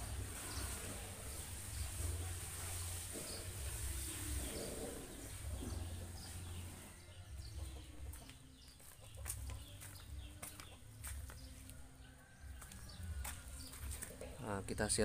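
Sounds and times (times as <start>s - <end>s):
chickens clucking: 0.0s - 14.7s.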